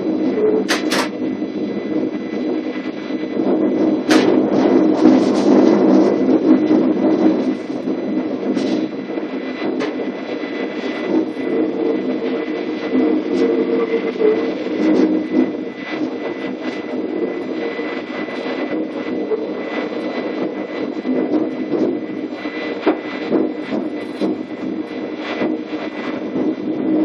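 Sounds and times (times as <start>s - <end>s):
electric train hum: 0.0s - 27.0s.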